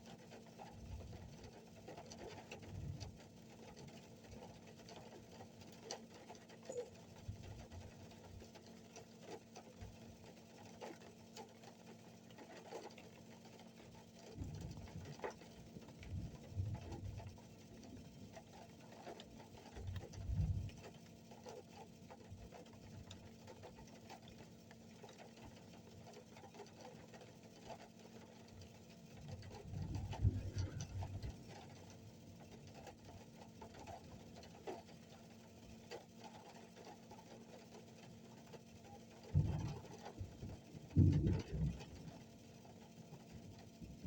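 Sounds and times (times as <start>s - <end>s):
faint steady crackle: 0.0s - 44.0s.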